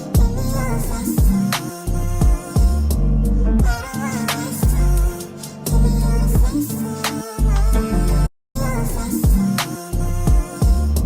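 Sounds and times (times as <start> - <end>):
hip-hop track with heavy bass: 0.0 - 11.0.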